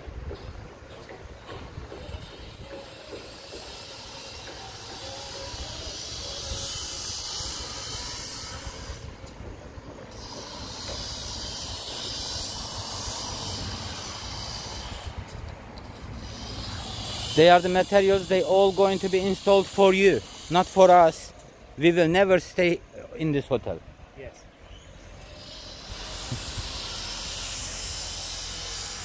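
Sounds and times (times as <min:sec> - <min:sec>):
construction site hiss and rumble: 0:00.0 - 0:29.0.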